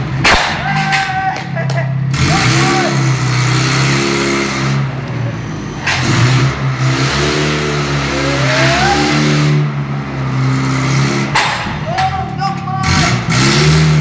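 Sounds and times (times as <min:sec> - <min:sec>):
forklift engine revving: 0:01.9 - 0:14.0.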